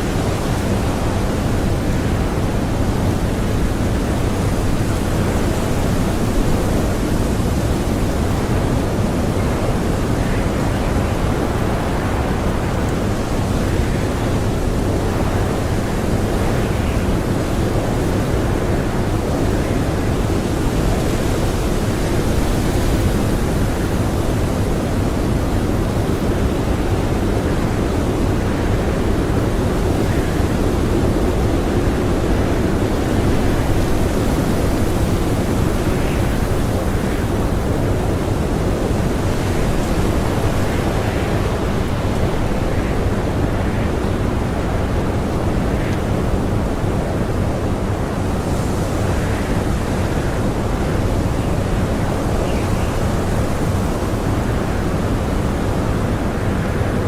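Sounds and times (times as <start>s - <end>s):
strong blizzard wind blowing: 0.0s - 57.0s.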